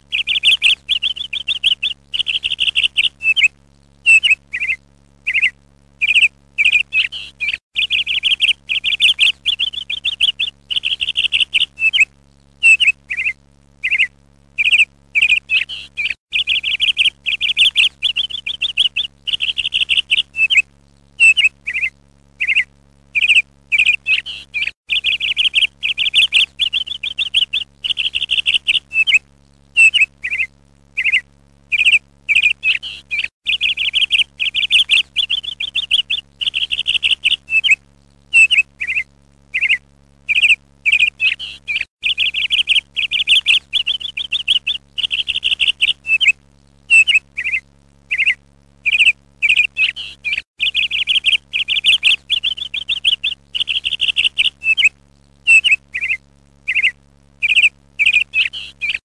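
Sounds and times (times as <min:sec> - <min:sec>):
faint low hum: 0:00.0 - 0:59.0
songbird chirping and trilling: 0:00.1 - 0:29.2, 0:29.8 - 0:59.0.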